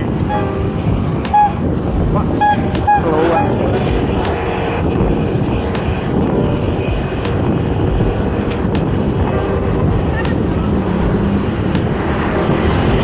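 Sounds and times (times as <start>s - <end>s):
city traffic: 0.0s - 13.0s
wind rush on microphone: 0.0s - 13.0s.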